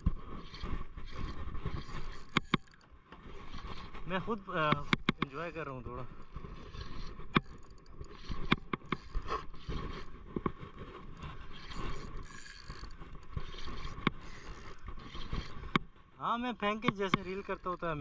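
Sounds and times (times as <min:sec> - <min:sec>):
sharp clicks and knocks: 0:00.0 - 0:03.8, 0:04.5 - 0:16.0, 0:16.6 - 0:18.0
fishing reel whirring: 0:00.0 - 0:15.9, 0:16.6 - 0:18.0.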